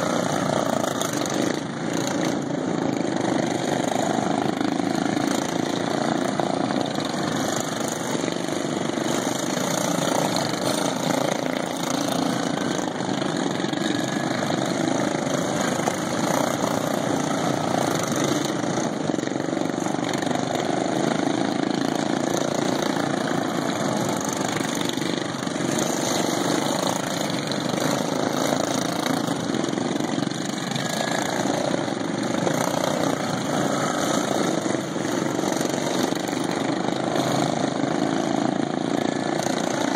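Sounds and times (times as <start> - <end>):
lawn mower engines running: 0.0 - 39.9.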